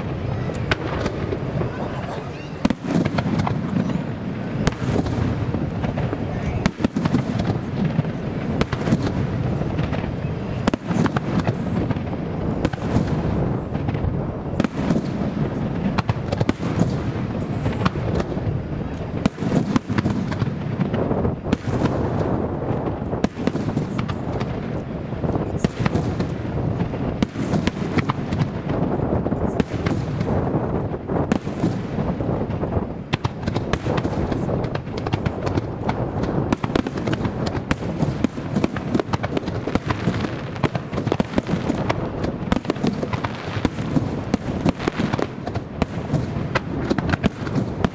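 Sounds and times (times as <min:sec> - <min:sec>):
fireworks barrage: 0:00.0 - 0:47.9
wind buffeting microphone: 0:00.0 - 0:47.9.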